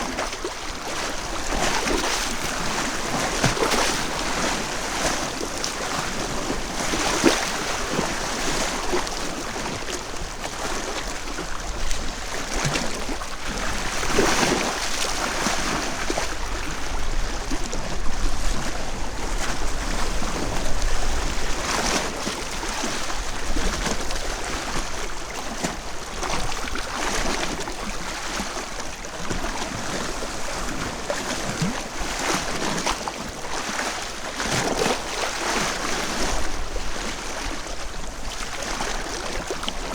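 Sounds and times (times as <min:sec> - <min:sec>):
small waves splashing on beach: 0:00.0 - 0:39.9.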